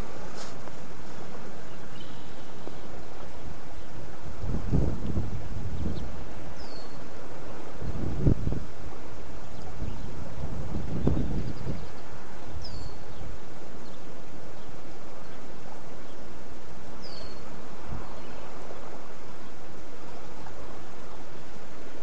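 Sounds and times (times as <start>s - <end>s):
wind over open water: 0.0s - 22.0s
wind rumble on microphone: 0.0s - 22.0s.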